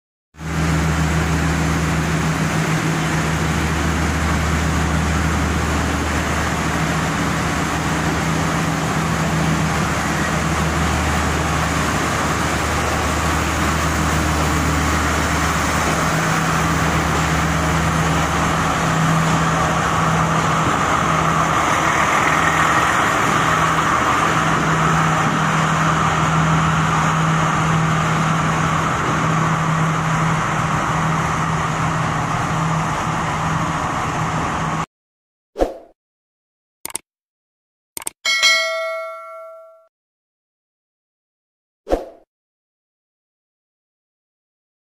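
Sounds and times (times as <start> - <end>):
train engine hum: 0.4 - 34.9, 38.3 - 39.8.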